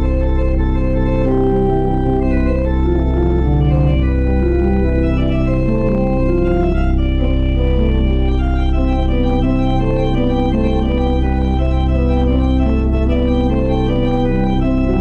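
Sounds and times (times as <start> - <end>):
organ playing: 0.0 - 15.0.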